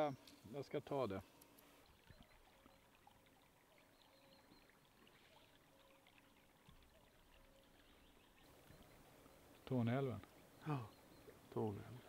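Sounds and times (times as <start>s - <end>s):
faint outdoor ambience hiss: 0.0s - 12.0s.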